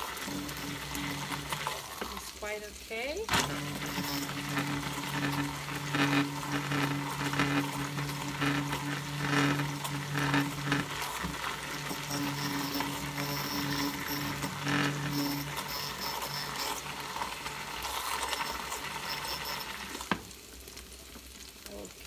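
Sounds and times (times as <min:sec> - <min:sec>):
immersion blender motor humming: 0:00.0 - 0:02.5, 0:03.3 - 0:20.4.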